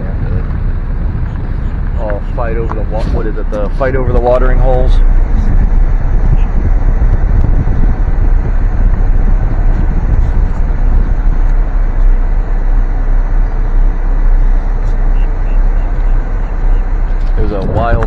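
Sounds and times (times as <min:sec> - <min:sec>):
car interior low rumble: 0:00.0 - 0:18.0.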